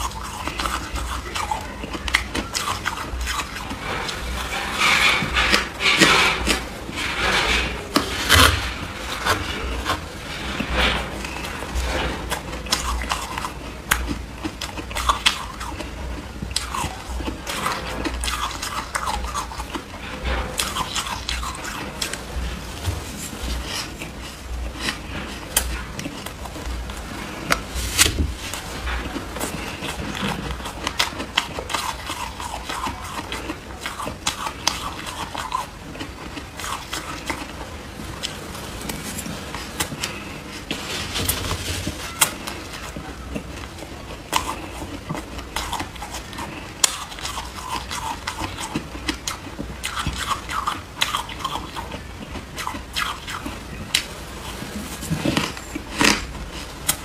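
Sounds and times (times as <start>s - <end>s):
shaved ice being chewed: 0.0s - 57.0s.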